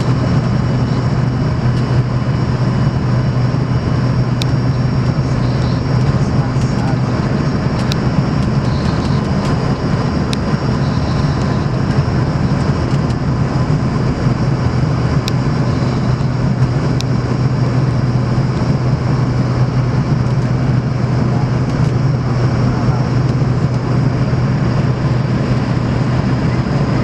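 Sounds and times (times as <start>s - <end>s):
jet engine and airflow noise: 0.0s - 27.0s
low hum: 0.0s - 27.0s.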